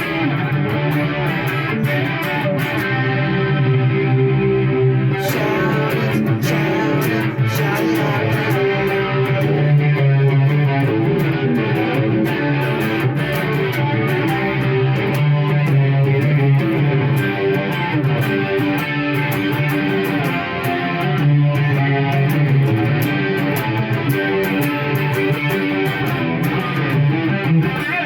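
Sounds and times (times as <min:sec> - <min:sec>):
electric guitar hard rock: 0:00.0 - 0:28.0.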